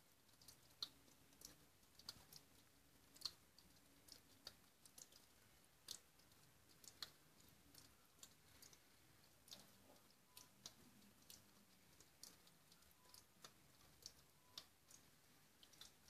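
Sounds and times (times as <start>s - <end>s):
faint sharp clicks and ticks: 0.0s - 16.0s.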